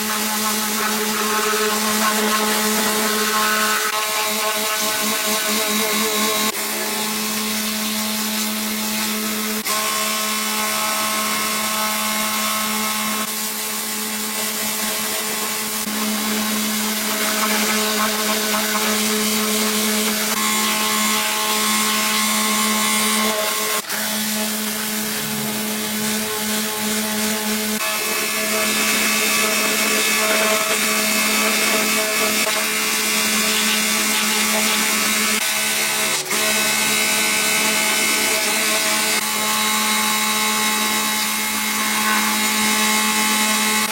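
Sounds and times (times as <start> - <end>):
electric power tool humming: 0.0 - 43.9.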